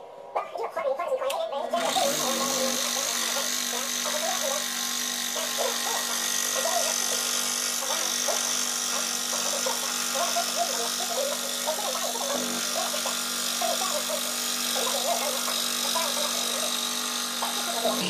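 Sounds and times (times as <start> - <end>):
scroll saw cutting wood: 1.7 - 18.0.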